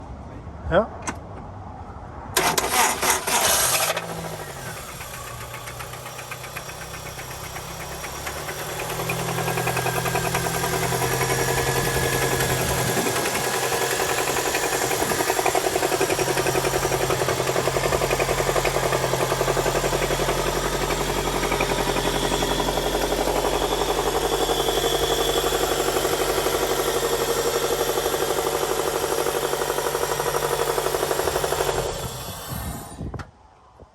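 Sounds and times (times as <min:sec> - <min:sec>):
car engine knocking: 0:04.8 - 0:32.1.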